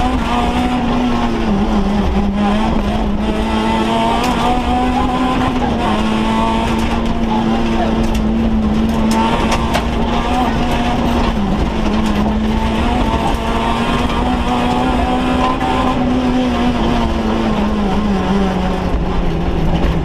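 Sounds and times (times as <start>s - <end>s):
car engine running hard: 0.0s - 20.0s
road rumble: 0.0s - 20.0s.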